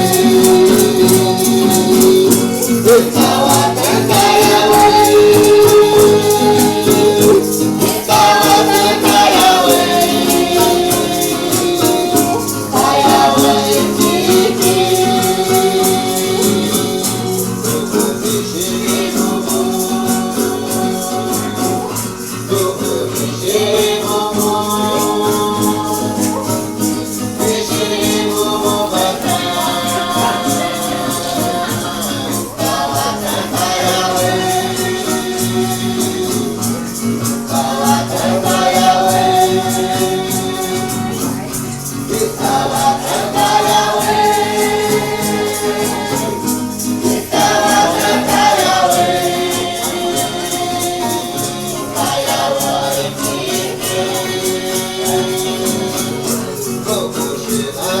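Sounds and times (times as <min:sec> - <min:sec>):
shaken rattles: 0:00.0 - 0:58.0
voices singing a chant: 0:00.0 - 0:58.0.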